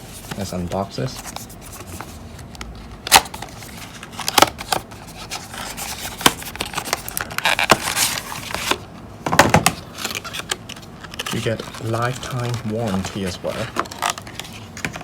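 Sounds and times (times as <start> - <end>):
packaging scraping and rustling: 0.0 - 8.9, 9.7 - 15.0.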